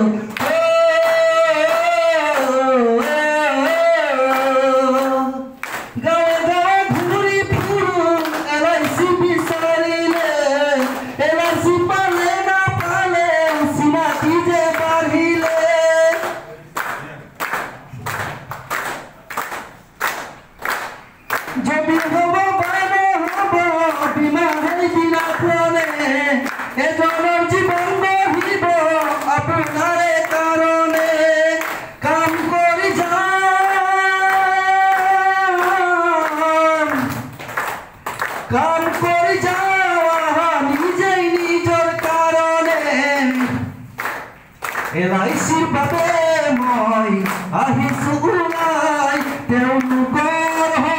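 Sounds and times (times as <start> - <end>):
man singing into a microphone: 0.0 - 16.6, 21.5 - 37.4, 38.4 - 44.0, 44.8 - 50.9
group clapping in a steady beat: 0.0 - 50.9.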